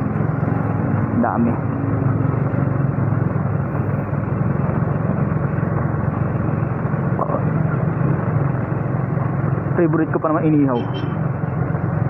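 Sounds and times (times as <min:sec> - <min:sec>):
road noise rushing: 0:00.0 - 0:12.0
scooter engine cruising: 0:00.0 - 0:12.0.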